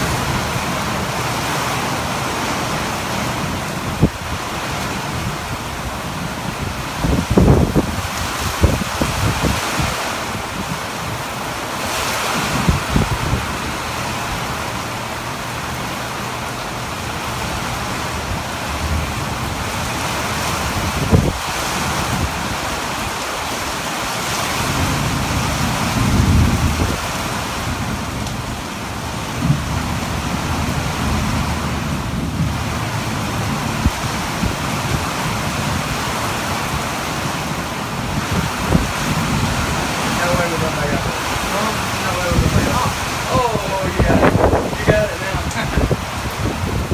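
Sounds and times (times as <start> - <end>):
heavy rain pouring: 0.0 - 46.9
wind buffeting microphone: 0.0 - 46.9.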